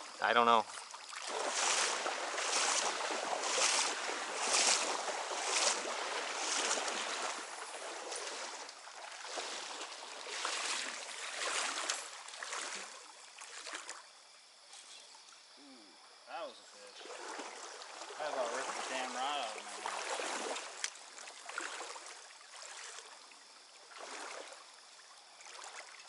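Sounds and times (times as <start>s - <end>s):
running water rushing: 0.0s - 14.0s, 16.4s - 26.0s
wading splashes: 0.0s - 15.4s, 16.8s - 26.0s.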